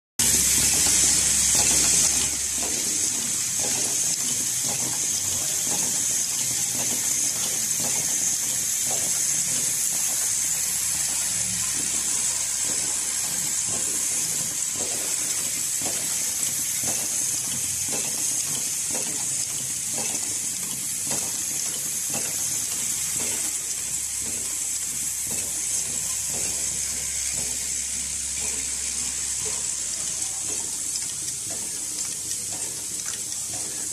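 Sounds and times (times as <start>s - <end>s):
machine high hiss: 0.2s - 33.9s
machine regular clicking: 0.2s - 33.9s.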